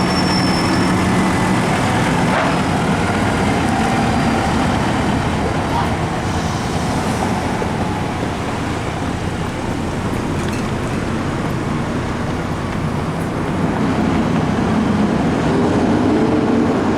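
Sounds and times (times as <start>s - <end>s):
fire truck diesel engines: 0.0s - 16.9s
traffic noise: 0.0s - 16.9s.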